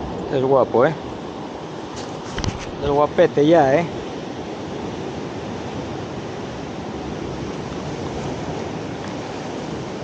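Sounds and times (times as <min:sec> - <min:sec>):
sea surf rushing: 0:00.0 - 0:10.0
wind: 0:00.0 - 0:10.0.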